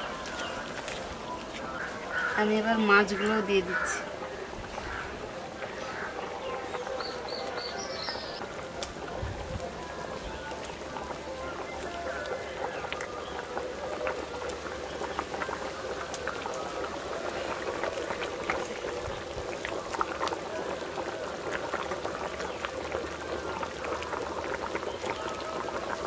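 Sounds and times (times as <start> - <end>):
curry boiling with popping bubbles: 0.0 - 26.0.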